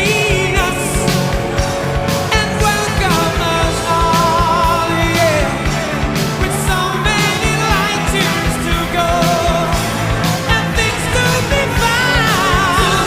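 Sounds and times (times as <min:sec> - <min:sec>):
fast drum beat: 0:00.0 - 0:13.0
rock music with singing: 0:00.0 - 0:13.0.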